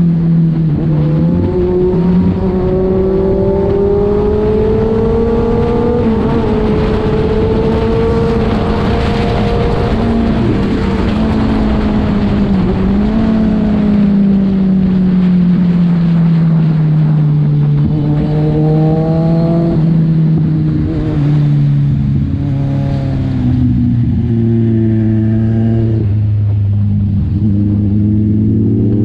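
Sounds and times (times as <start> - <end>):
motorcycle engine and exhaust: 0.0 - 29.0
wind noise rushing: 0.1 - 29.0.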